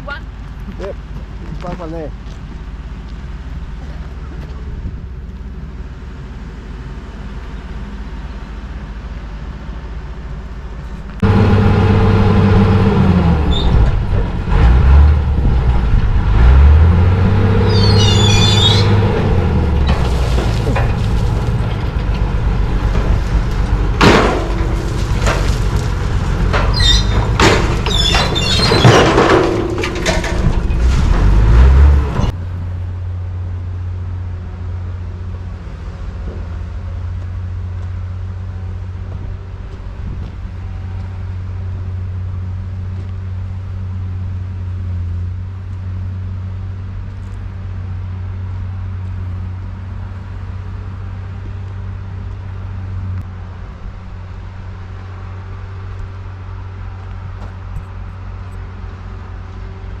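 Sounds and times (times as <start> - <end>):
car engine and road noise: 0.0 - 60.0.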